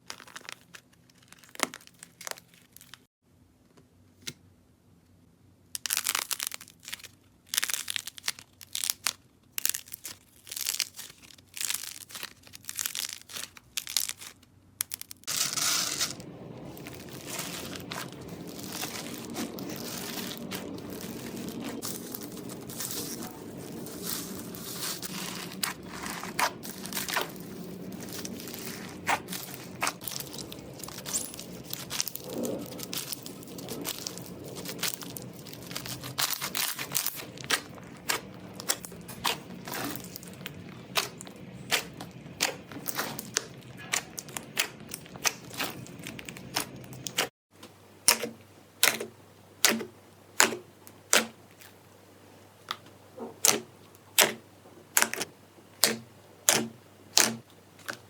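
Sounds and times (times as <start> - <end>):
slime crackling and popping: 0.0 - 3.1, 5.8 - 47.3, 48.0 - 51.8, 53.4 - 58.0.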